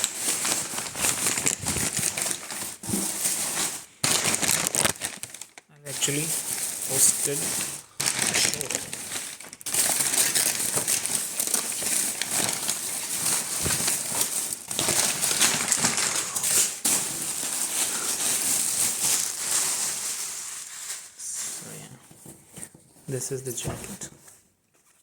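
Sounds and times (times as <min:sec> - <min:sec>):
puffer jacket rustling: 0:00.0 - 0:21.7.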